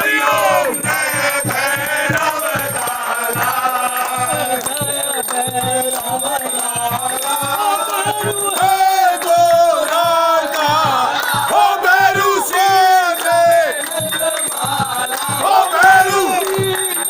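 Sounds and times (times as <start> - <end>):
instrumental accompaniment: 0.0 - 17.0
steady percussion beat: 0.0 - 17.0
voices singing a hymn: 0.0 - 17.0.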